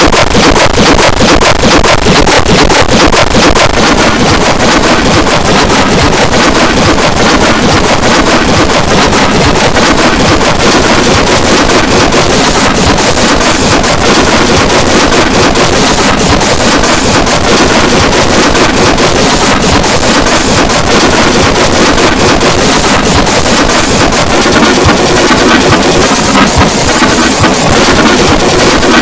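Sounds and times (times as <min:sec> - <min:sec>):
harsh distorted noise: 0:00.0 - 0:29.0.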